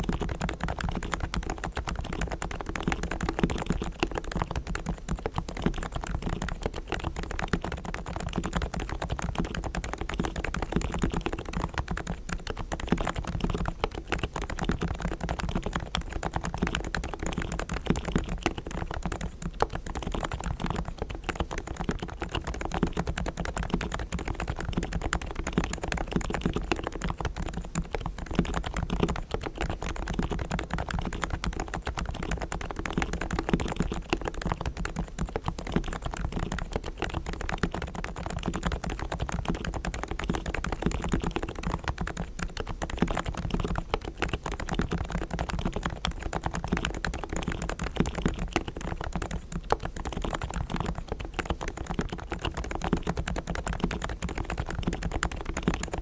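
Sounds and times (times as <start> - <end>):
muted fast keyboard typing: 0.0 - 56.0.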